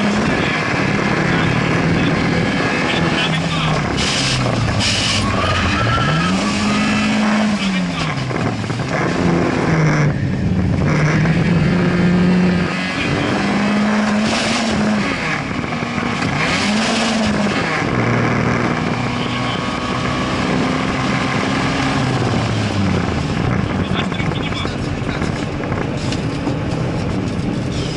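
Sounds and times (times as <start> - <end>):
rally car engine revving: 0.0 - 27.9
road and tyre noise: 0.0 - 27.9.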